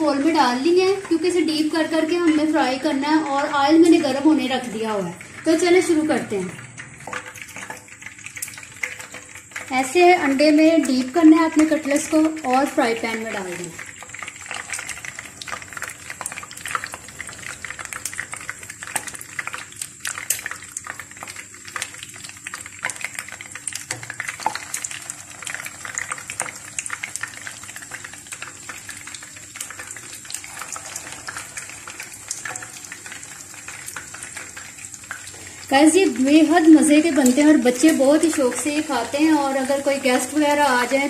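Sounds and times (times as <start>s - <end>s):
cutlets sizzling in hot oil: 0.0s - 41.0s
oil popping: 0.0s - 41.0s.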